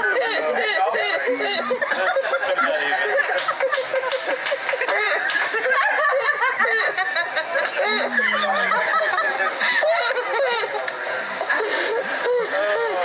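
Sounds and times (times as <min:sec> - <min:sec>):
high-pitched laughing chorus: 0:00.0 - 0:13.0.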